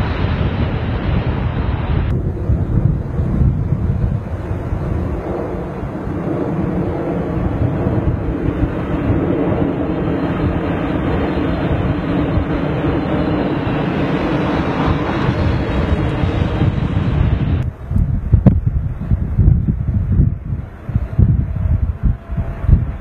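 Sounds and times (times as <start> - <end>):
jet engines with deep rumble: 0.0 - 23.0.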